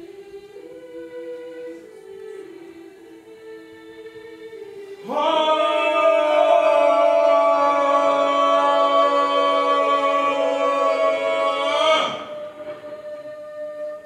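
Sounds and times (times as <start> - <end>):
choir singing a chord: 0.0 - 14.0.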